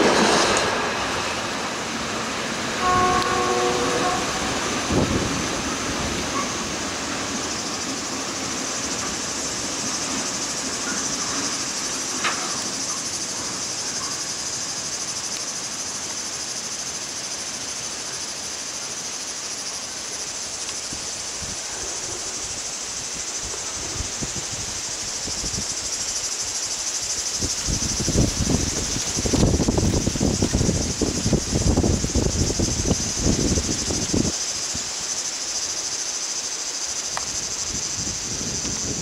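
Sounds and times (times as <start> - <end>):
train wagons rumbling: 0.0 - 16.4, 19.8 - 35.9
high-pitched insect chorus: 0.0 - 39.0.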